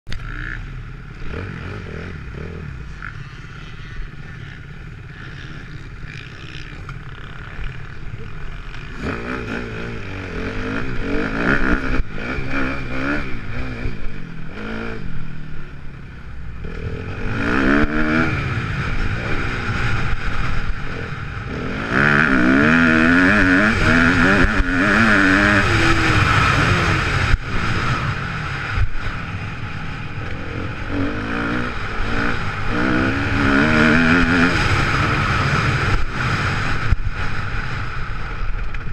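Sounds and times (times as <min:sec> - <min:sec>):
motocross bike engine revving: 0:00.1 - 0:15.9, 0:16.5 - 0:38.9.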